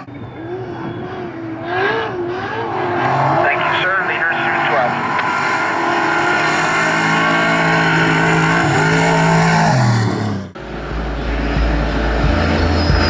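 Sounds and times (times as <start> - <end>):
truck engine revving high: 0.0 - 13.0.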